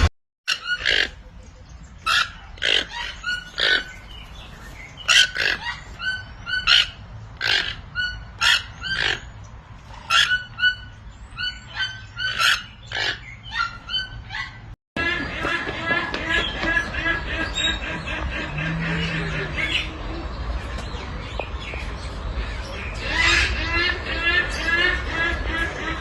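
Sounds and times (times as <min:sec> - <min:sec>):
birds harsh calls: 0:00.0 - 0:26.0.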